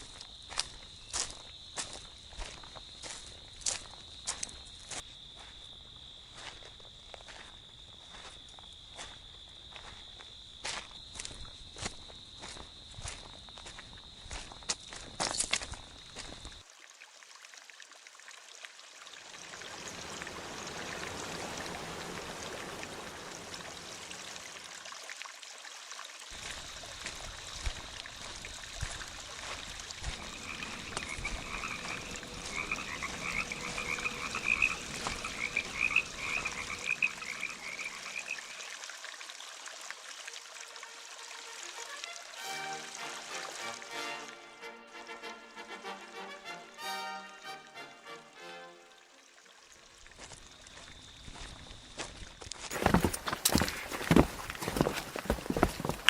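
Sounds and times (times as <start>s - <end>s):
frogs croaking: 0.0s - 16.7s, 19.0s - 25.1s, 26.2s - 41.9s, 49.3s - 56.0s.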